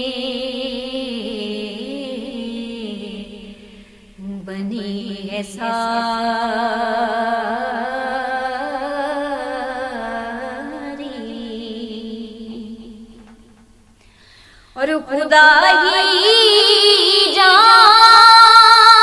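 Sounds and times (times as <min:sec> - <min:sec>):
woman singing: 0:00.0 - 0:13.6, 0:14.8 - 0:19.0.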